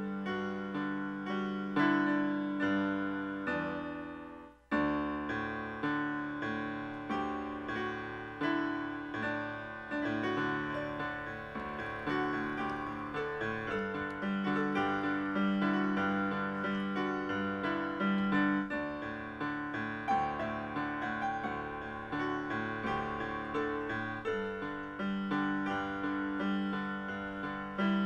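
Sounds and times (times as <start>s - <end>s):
solo piano music: 0.0s - 28.0s.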